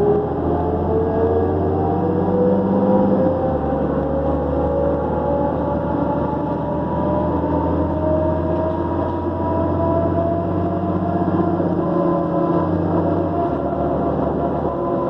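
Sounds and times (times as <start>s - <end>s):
bus diesel engine drone: 0.0s - 15.0s
turbocharger whine: 0.0s - 15.0s.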